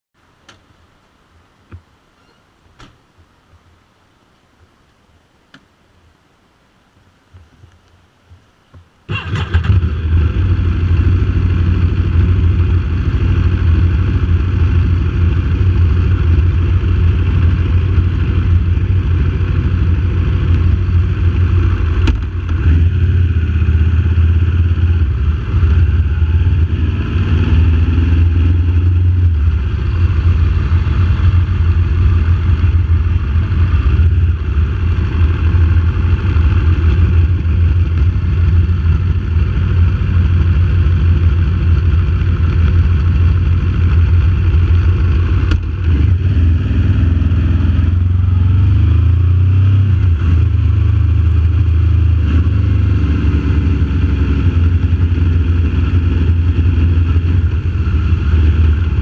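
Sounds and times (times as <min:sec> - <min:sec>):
motorcycle engine starting and running: 0:09.1 - 0:59.0.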